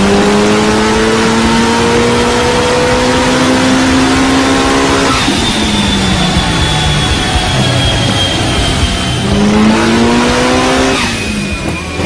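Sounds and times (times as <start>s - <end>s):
car engine full-throttle pull: 0.0s - 12.0s
high whine: 0.0s - 12.0s.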